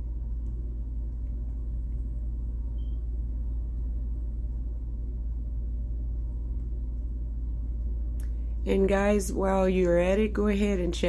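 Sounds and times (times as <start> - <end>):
low electrical hum with rumble: 0.0 - 11.0.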